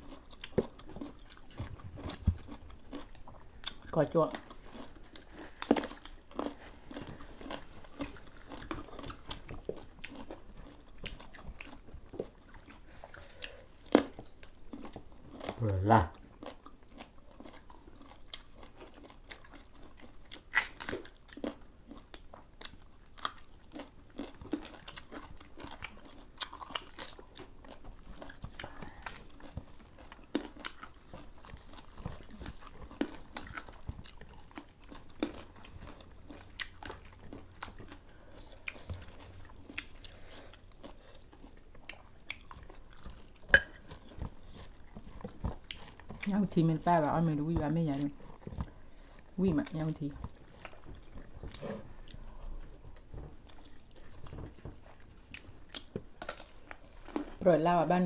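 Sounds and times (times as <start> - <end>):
people chewing and crunching food: 0.0 - 58.0.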